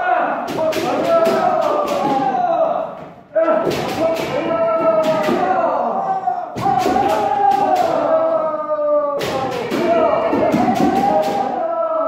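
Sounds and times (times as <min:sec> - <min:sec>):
people shouting: 0:00.0 - 0:12.0.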